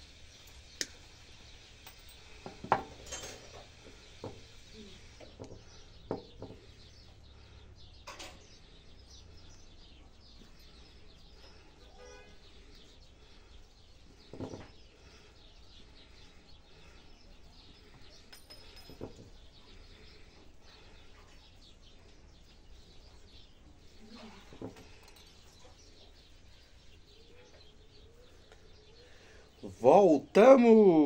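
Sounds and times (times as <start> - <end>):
faint small birds chirping: 0.0 - 31.0.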